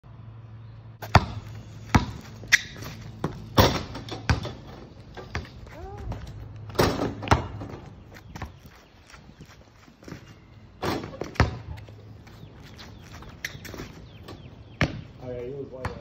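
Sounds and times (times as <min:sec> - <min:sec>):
basketball bouncing on pavement: 0:01.0 - 0:16.0.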